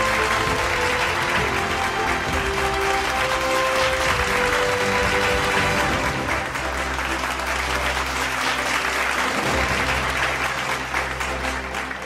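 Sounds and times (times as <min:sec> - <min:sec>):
applause: 0:00.0 - 0:12.0
background music: 0:00.0 - 0:12.0.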